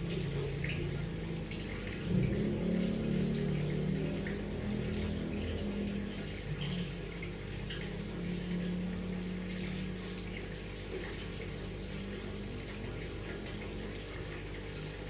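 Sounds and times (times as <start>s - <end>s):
aquarium water trickling: 0.0s - 15.0s
steady low hum: 0.0s - 15.0s.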